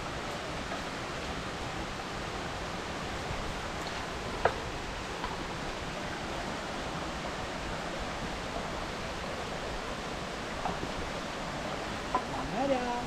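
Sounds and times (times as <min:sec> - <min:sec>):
forest stream rushing: 0:00.0 - 0:13.0.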